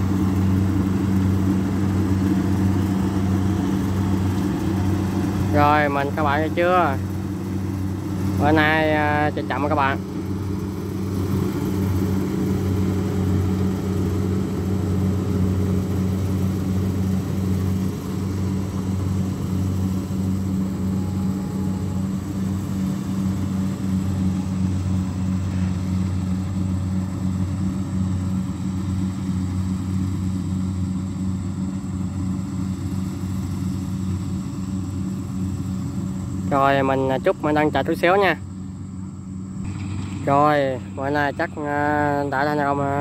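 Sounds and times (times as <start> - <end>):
combine harvester diesel engine droning: 0.0 - 43.0.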